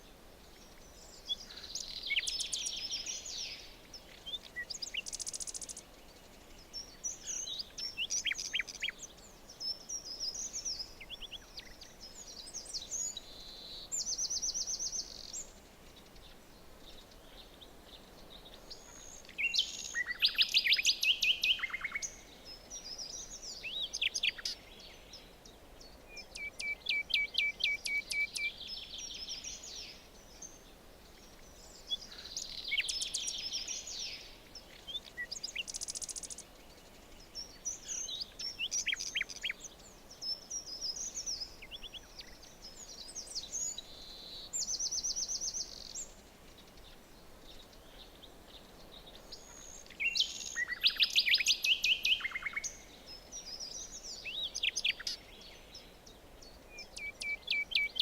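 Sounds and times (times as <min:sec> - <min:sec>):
faint background hiss: 0:00.0 - 0:58.0
small birds singing and chirping: 0:00.0 - 0:58.0.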